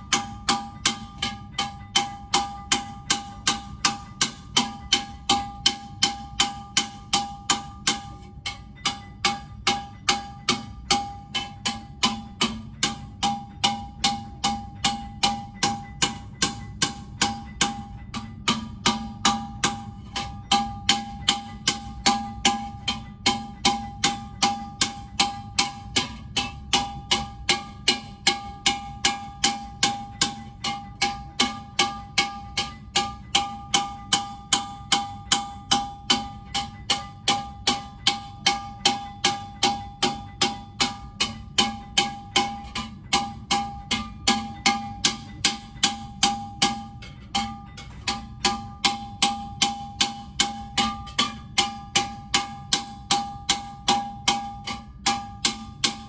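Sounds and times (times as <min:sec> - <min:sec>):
hammer striking copper vase: 0:00.0 - 0:56.0.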